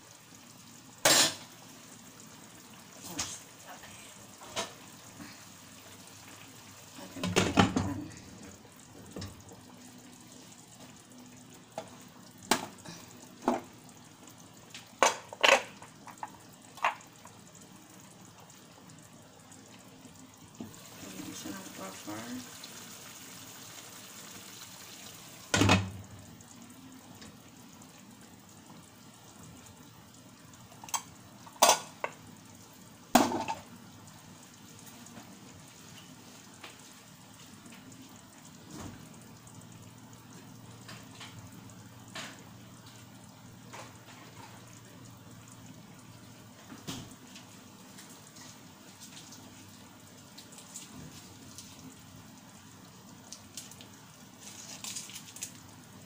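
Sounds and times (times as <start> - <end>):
meat sizzling in a frying pan: 0.0 - 56.0.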